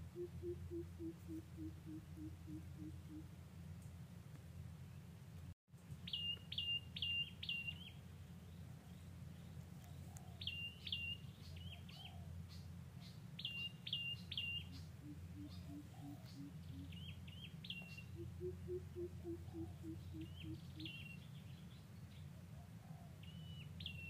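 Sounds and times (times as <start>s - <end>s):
steady low background hum: 0.0s - 24.0s.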